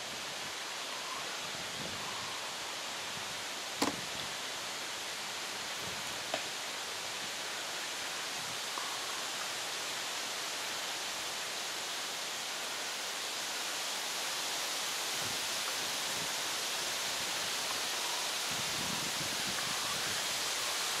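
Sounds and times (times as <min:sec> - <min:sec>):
outdoor ambience hiss: 0:00.0 - 0:21.0.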